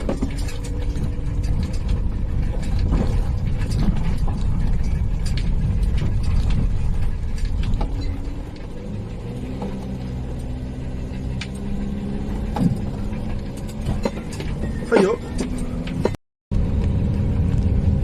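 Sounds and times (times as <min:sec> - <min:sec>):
rattles and knocks from vehicle body: 0:00.0 - 0:16.2
engine and road drone: 0:00.0 - 0:18.0
vehicle rumble on rough road: 0:00.0 - 0:18.0.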